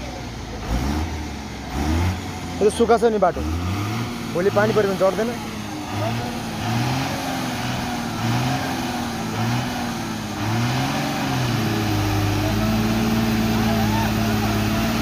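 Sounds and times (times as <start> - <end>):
truck diesel engine revving: 0.0 - 15.0.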